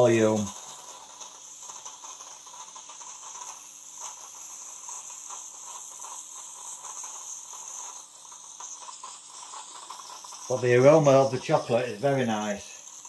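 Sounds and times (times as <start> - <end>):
coffee machine hissing steam: 0.0 - 13.0
faint crackle: 0.0 - 13.0.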